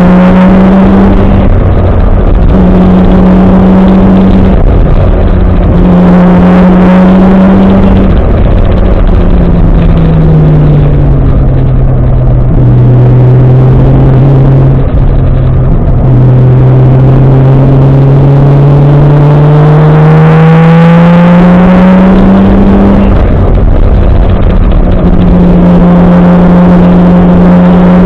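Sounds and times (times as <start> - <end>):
loud car engine accelerating: 0.0 - 28.0
road and wind noise: 0.0 - 28.0.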